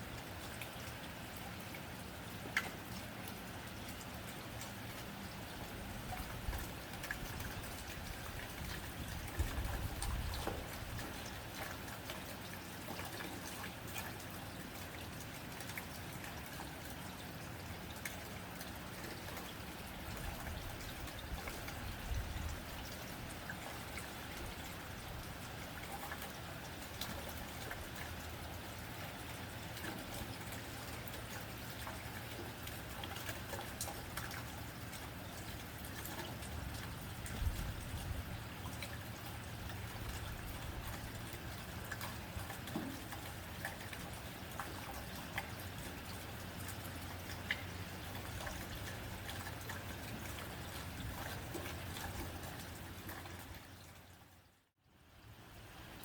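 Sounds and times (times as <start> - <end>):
rain on a tin roof: 0.0 - 56.0
water trickling and pouring: 0.0 - 56.0.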